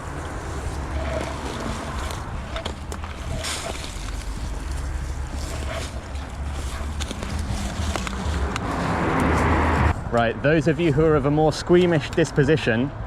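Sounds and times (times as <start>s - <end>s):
wind buffeting microphone: 0.0s - 11.3s
road traffic noise: 0.0s - 13.0s.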